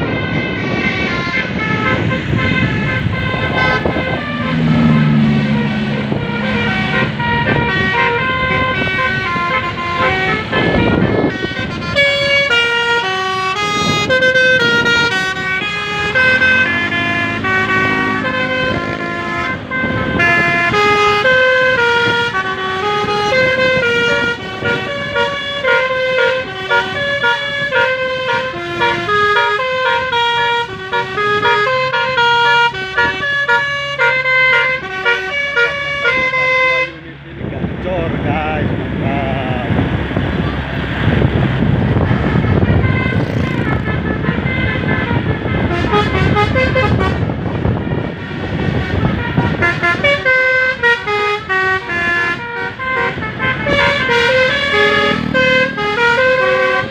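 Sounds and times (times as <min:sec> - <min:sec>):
musical air horn melody: 0:00.0 - 0:37.0, 0:42.0 - 0:56.9.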